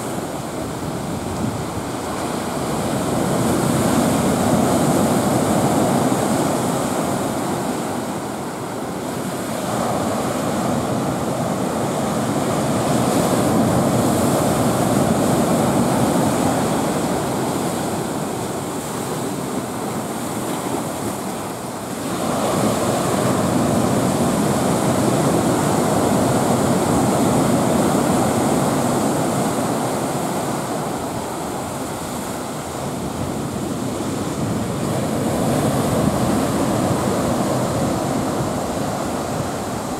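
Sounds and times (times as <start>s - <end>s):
surf breaking on shore: 0.0s - 39.9s.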